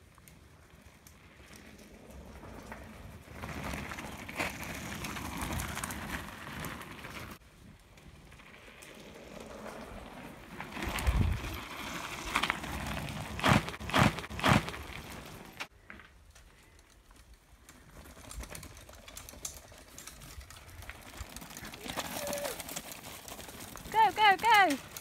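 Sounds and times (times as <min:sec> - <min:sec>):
bike tyres crunching on gravel: 0:00.0 - 0:25.0.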